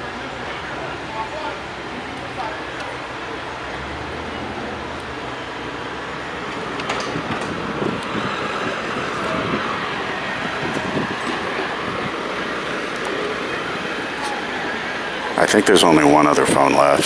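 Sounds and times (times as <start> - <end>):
vehicle passing: 0.0 - 16.9
city street traffic: 0.0 - 17.0.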